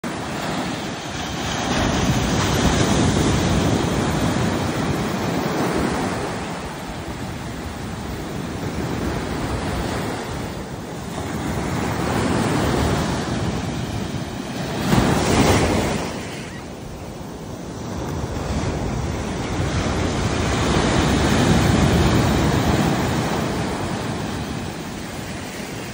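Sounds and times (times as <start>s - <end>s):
surf breaking on beach: 0.0s - 25.9s.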